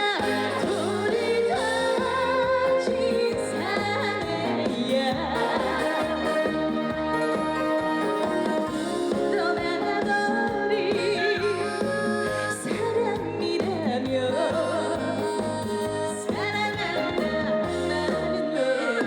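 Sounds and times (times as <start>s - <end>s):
backing track with bass pattern: 0.0s - 19.0s
woman singing with vibrato: 0.0s - 19.0s.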